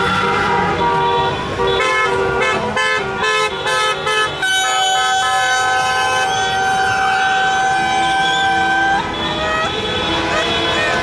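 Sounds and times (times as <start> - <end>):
car horns honking: 0.0 - 11.0.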